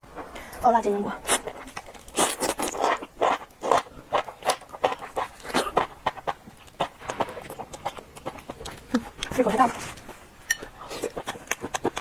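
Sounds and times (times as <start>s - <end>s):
wet chewing and lip smacks: 1.4s - 9.4s, 10.0s - 12.0s.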